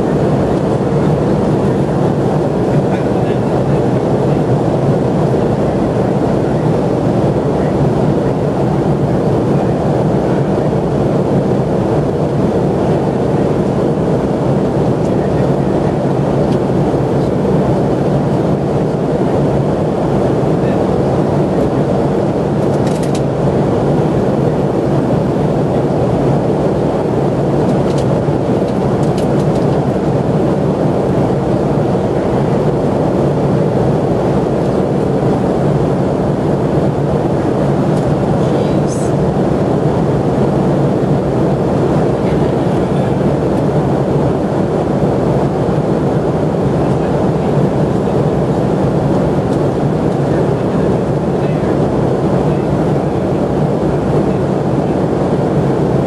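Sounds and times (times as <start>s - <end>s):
airplane cabin engine hum: 0.0s - 56.0s.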